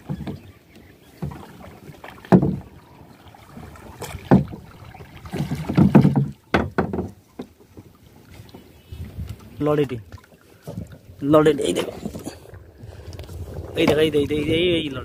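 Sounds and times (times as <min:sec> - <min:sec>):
pole rowing strokes in water: 0:00.0 - 0:15.0.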